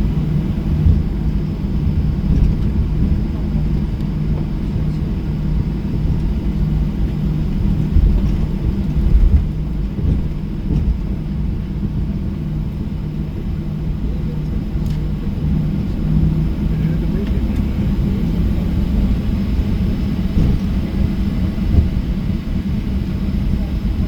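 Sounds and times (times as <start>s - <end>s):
aircraft cabin engine rumble: 0.0s - 24.0s
low hum: 0.0s - 24.0s.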